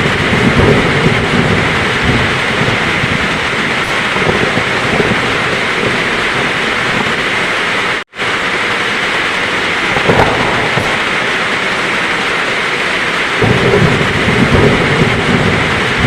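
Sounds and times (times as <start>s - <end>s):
heavy rain pouring: 0.0s - 16.0s
low thunder rumbling: 0.0s - 16.0s.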